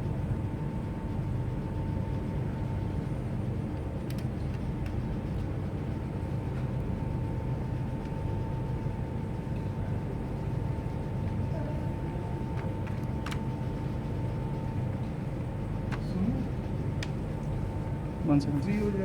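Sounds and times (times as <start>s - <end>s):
low rumble and hum: 0.0s - 19.0s.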